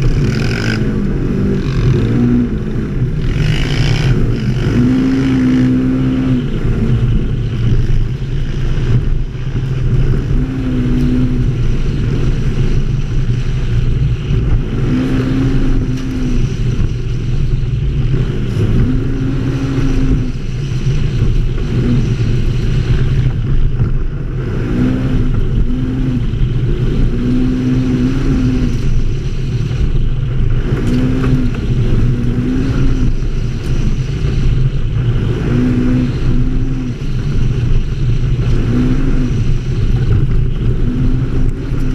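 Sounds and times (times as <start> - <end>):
atv engine rumbling: 0.0 - 41.9.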